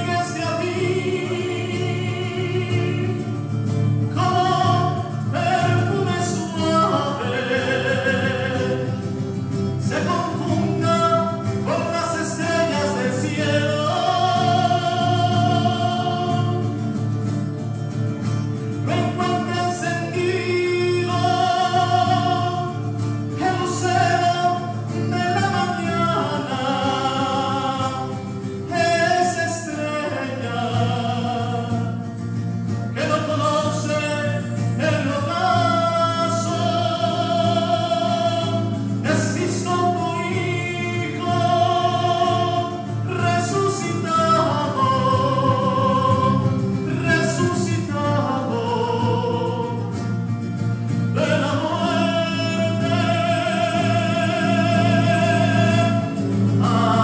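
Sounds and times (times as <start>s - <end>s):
voices singing a hymn: 0.0s - 17.2s, 18.9s - 32.0s, 33.0s - 50.0s, 51.2s - 57.0s.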